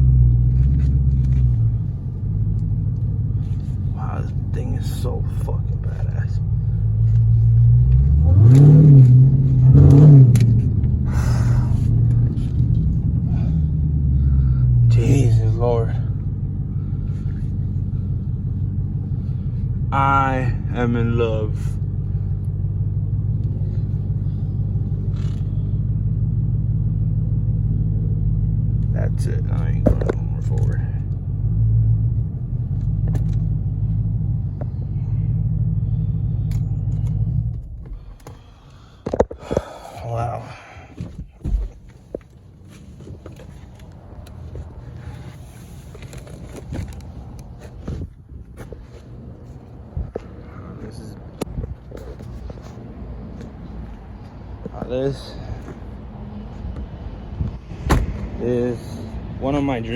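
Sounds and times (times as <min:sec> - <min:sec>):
loud car engine under throttle: 0:00.0 - 0:59.9.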